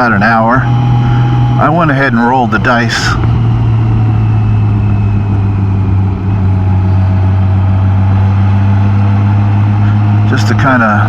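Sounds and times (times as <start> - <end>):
motorcycle engine humming: 0.0 - 11.0
rushing wind noise: 0.0 - 11.0.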